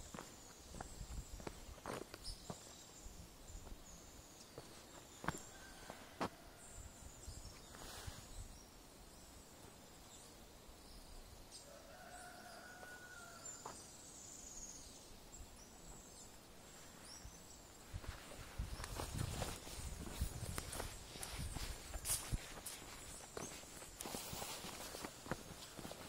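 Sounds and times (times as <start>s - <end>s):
outdoor ambience: 0.0s - 26.0s.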